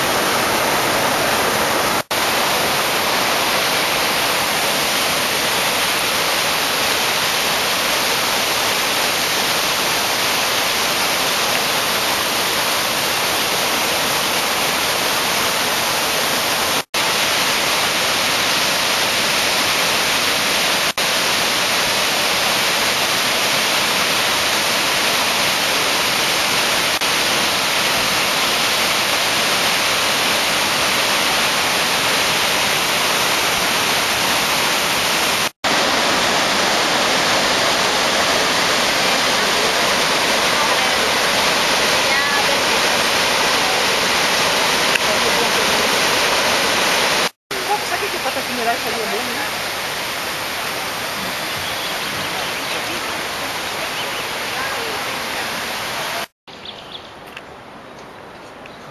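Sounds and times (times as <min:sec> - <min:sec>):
waterfall rushing: 0:00.0 - 0:56.3.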